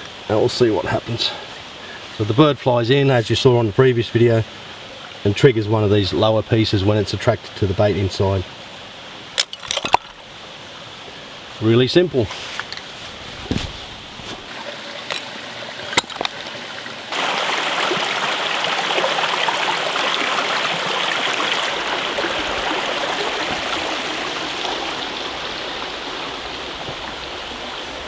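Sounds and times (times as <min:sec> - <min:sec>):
stream running: 0:00.0 - 0:28.0.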